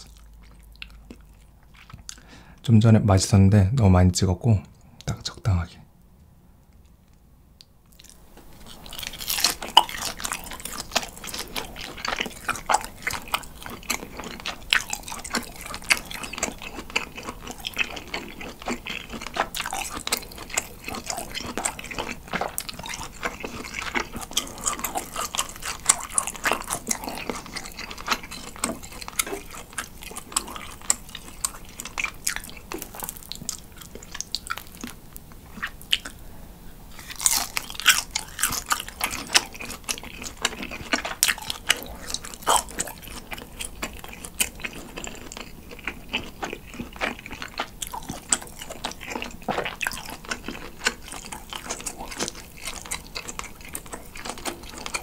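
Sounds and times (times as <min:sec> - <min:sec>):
close-up chewing: 0:00.0 - 0:02.6, 0:06.8 - 0:36.3, 0:36.9 - 0:55.0.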